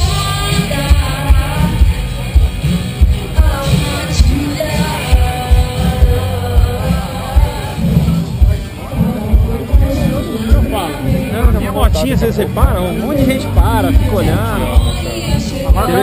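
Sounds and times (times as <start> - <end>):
singing over thumping beat: 0.0 - 16.0.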